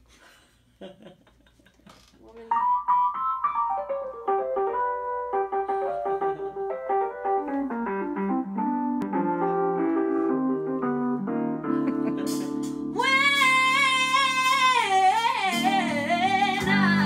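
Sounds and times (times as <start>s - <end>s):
piano accompaniment: 2.5s - 17.0s.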